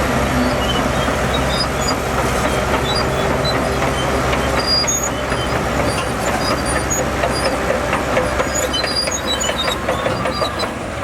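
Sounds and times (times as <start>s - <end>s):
bulldozer diesel engine running: 0.0s - 11.0s
steel tracks squeaking and clanking: 0.0s - 11.0s.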